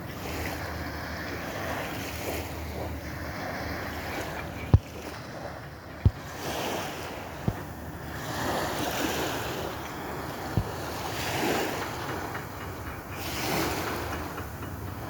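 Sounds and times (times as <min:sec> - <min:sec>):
sea waves washing ashore: 0:00.0 - 0:15.0
wind on microphone: 0:00.0 - 0:15.0.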